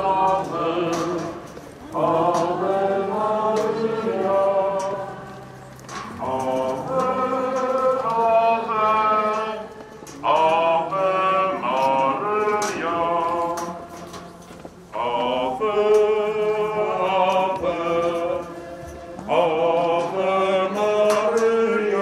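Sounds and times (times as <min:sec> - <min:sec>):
person singing a hymn: 0:00.0 - 0:22.0.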